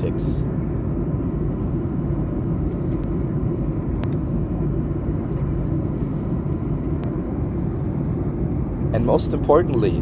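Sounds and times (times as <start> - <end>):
airplane cabin engine roar: 0.0 - 10.0.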